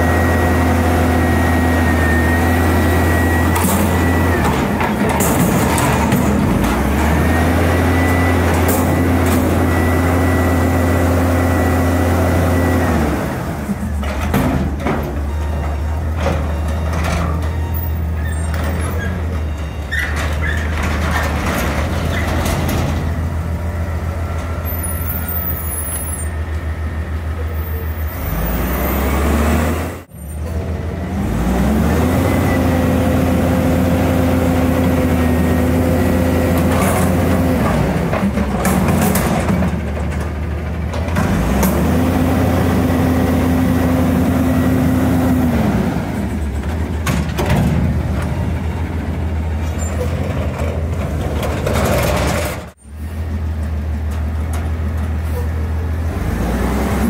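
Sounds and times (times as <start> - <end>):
garbage truck engine revving: 0.0 - 57.0.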